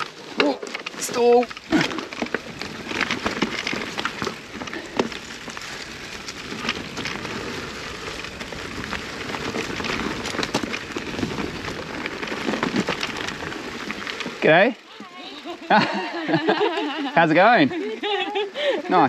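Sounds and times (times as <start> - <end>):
bike clicks and rattles: 0.0 - 19.0
tyres crunching on gravel: 0.0 - 19.0.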